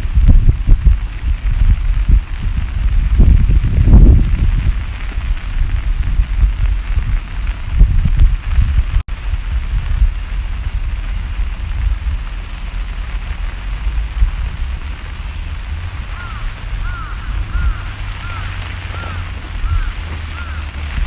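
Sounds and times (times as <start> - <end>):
low rumble: 0.0 - 21.0
rain hissing: 0.0 - 21.0.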